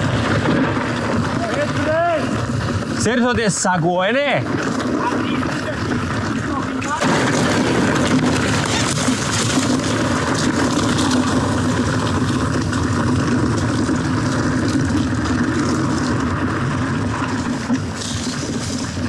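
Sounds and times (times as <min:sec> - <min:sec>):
bike tyre rumble and rattle: 0:00.0 - 0:19.0
stones knocking and clicking: 0:00.0 - 0:19.0.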